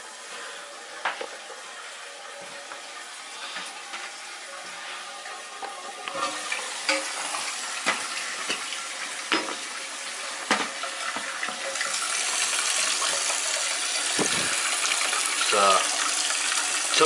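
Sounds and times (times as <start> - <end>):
toilet tank filling hiss: 0.0 - 17.0.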